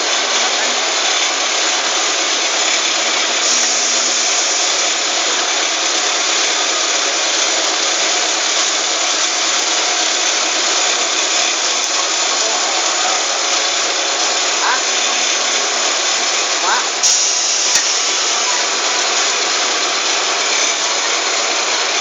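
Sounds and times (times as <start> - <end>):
machine running: 0.0 - 22.0.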